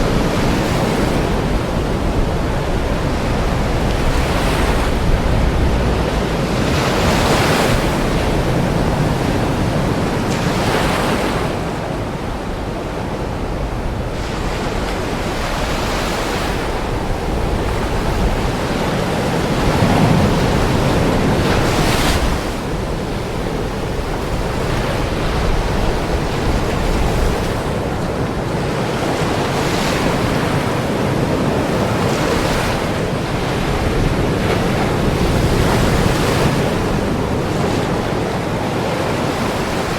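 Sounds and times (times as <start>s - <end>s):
ocean waves breaking: 0.0s - 39.9s
wind on microphone: 0.0s - 39.9s.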